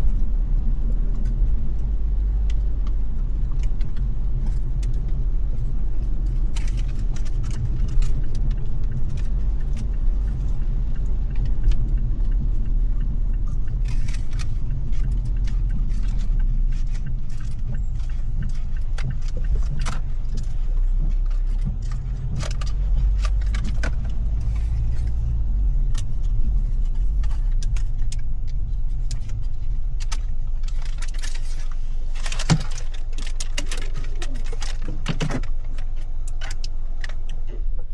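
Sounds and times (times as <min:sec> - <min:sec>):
car cabin rumble: 0:00.0 - 0:37.9.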